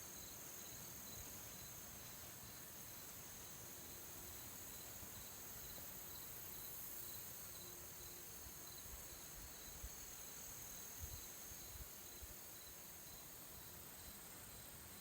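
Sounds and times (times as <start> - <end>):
background hiss: 0.0 - 15.0
insects chirping: 0.1 - 14.7.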